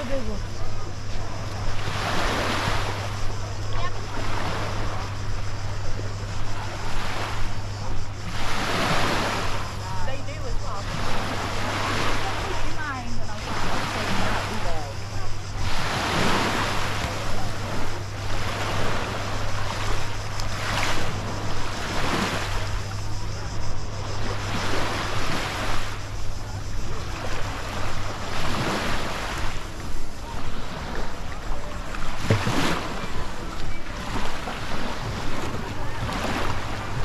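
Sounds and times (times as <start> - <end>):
sea waves washing on shore: 0.0 - 37.0
steady low hum: 0.0 - 37.0.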